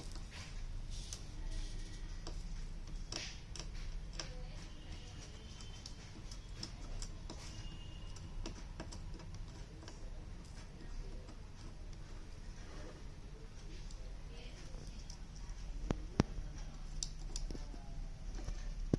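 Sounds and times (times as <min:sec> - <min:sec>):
small parts and tools clicking: 0:01.0 - 0:12.0, 0:13.5 - 0:18.9.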